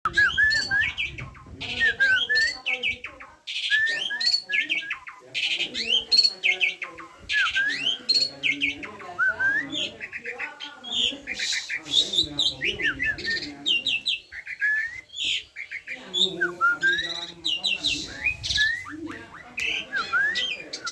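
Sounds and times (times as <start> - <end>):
starling singing: 0.0 - 20.9.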